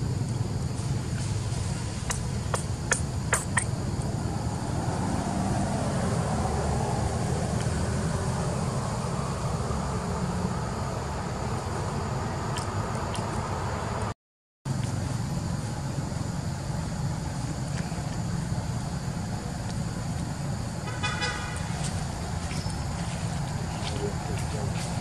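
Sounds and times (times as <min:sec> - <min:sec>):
low outdoor rumble: 0:00.0 - 0:14.1, 0:14.7 - 0:25.0.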